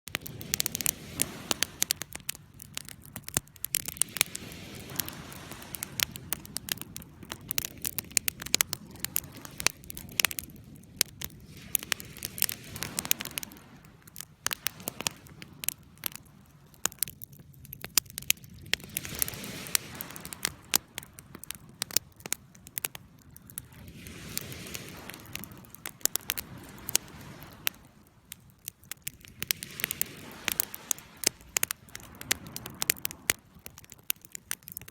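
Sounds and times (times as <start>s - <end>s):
wood crackling and popping: 0.0s - 34.9s
rush of flame: 0.1s - 34.9s.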